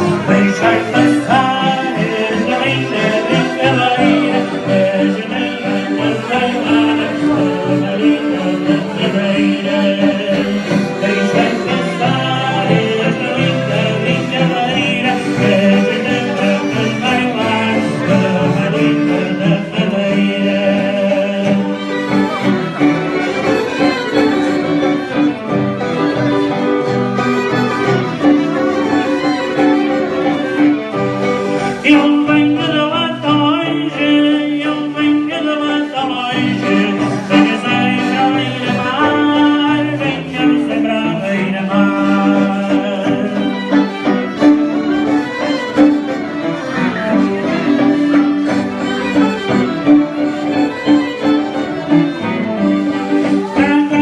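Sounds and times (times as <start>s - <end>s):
folk band dance music: 0.0s - 54.0s.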